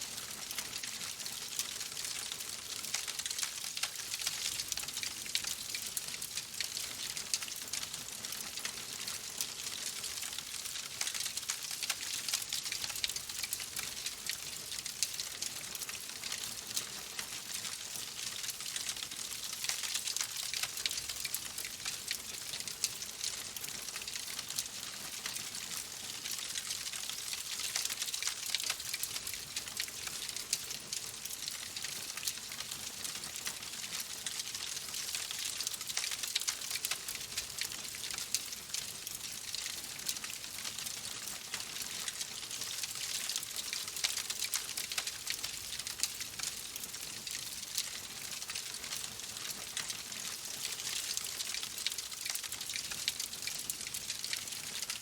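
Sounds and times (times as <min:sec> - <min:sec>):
wood fire crackling: 0:00.2 - 0:54.9.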